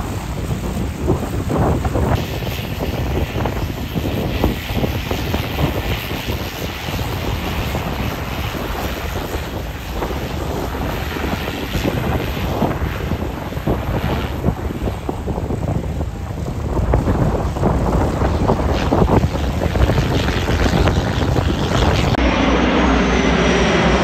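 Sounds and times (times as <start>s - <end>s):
wind buffeting microphone: 0.0s - 22.2s
propeller plane engine running: 0.0s - 24.0s.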